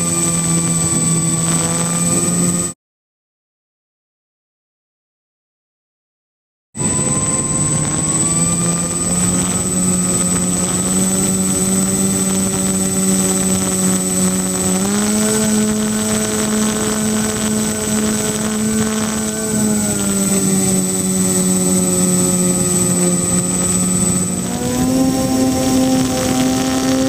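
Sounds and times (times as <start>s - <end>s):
electric motors droning: 0.0s - 2.7s, 6.8s - 27.0s
thin high whine: 0.0s - 2.8s, 6.8s - 27.0s.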